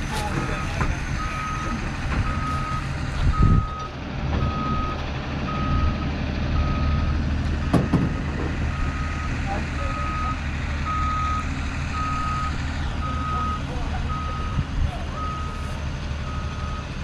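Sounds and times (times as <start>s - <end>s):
forklift engine running: 0.0s - 17.0s
reversing alarm beeping: 0.4s - 6.0s, 6.6s - 17.0s.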